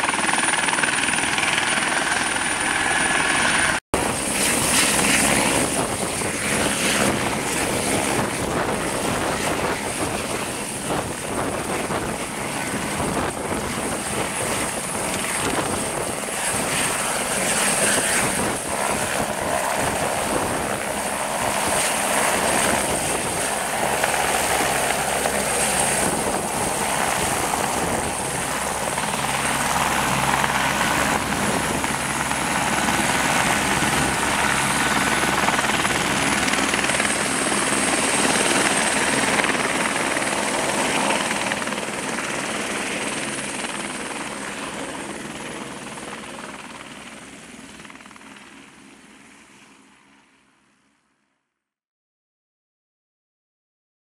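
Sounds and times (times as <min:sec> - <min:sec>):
helicopter rotor beat: 0:00.0 - 0:50.1
helicopter turbine whine: 0:00.0 - 0:50.4.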